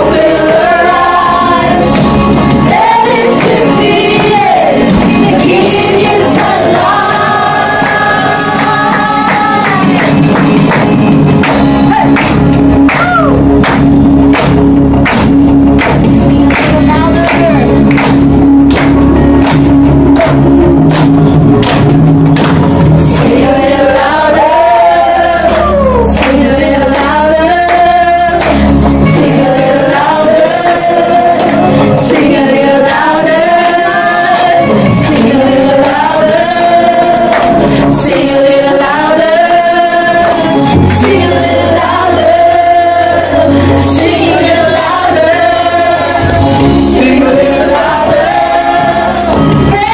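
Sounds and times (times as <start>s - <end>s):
group singing in unison: 0.0s - 49.9s
instrumental accompaniment with bass: 0.0s - 49.9s
clapping along: 0.1s - 43.4s, 44.0s - 49.9s.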